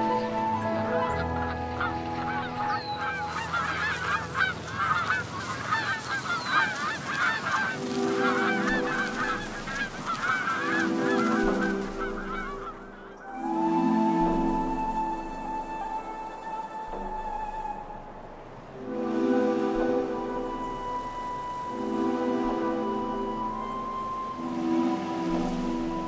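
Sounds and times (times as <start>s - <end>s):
geese honking: 0.0s - 18.1s, 18.7s - 26.0s
background music: 0.0s - 26.0s.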